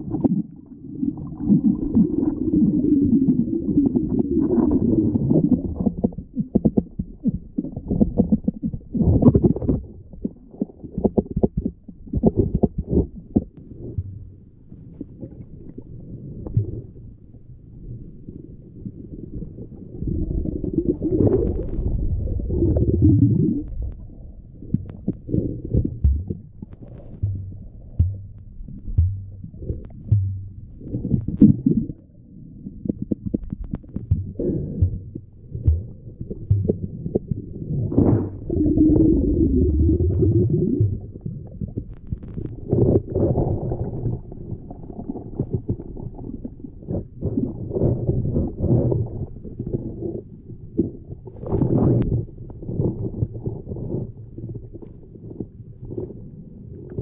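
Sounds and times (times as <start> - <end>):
muffled underwater rumble: 0.0 - 57.0.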